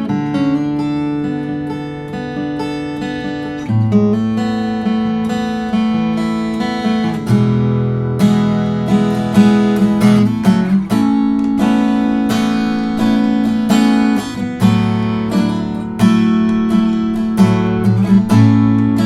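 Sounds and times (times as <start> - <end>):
acoustic guitar chords ringing: 0.0 - 19.0.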